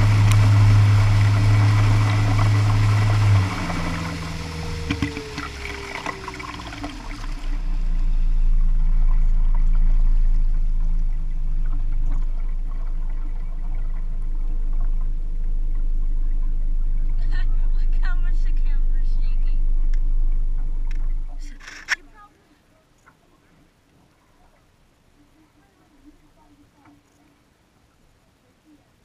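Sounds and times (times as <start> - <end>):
floatplane engine: 0.0 - 27.3
water rushing along float: 0.0 - 28.7.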